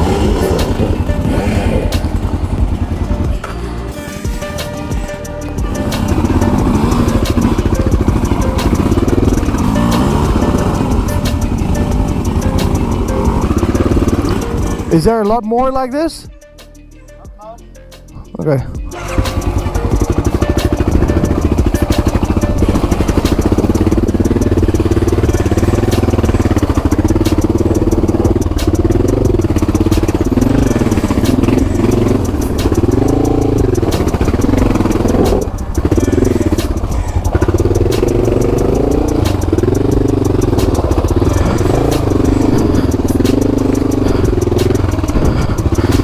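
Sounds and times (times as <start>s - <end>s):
motorcycle engine revving: 0.0s - 15.3s, 18.8s - 46.0s.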